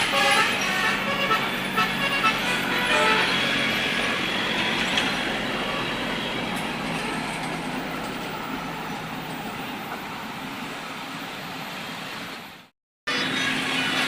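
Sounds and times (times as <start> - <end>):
bus engine and tyre noise: 0.0 - 14.0.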